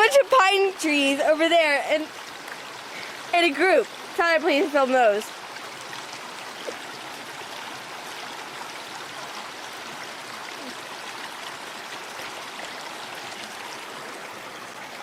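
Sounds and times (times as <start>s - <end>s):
creek water babbling: 0.0s - 15.0s.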